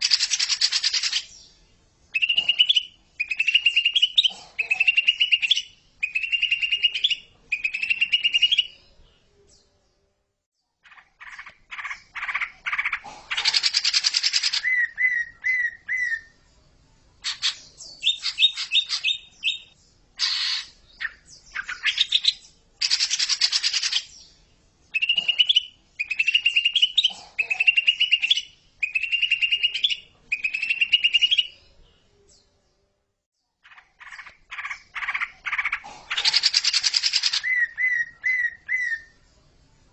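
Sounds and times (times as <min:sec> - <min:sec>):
bird singing trilled phrases: 0:00.0 - 0:09.7, 0:10.6 - 0:16.4, 0:17.2 - 0:32.6, 0:33.4 - 0:39.2.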